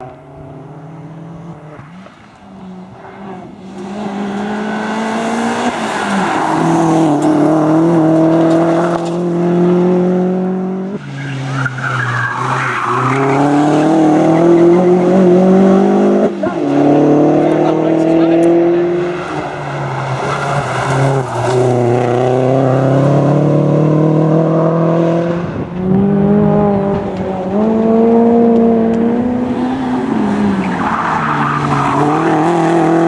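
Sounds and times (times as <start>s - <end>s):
racing car engine at full throttle: 0.0s - 33.0s.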